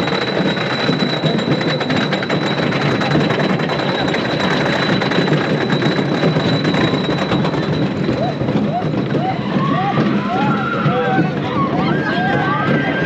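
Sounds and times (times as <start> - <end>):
roller coaster clattering on track: 0.0 - 13.0.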